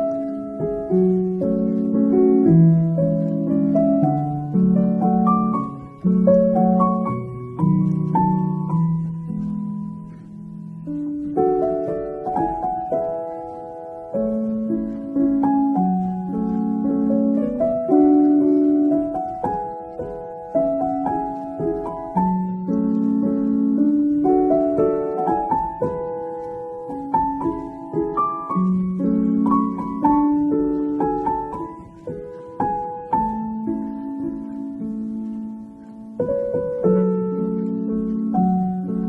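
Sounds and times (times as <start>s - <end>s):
gentle piano music: 0.0s - 39.0s.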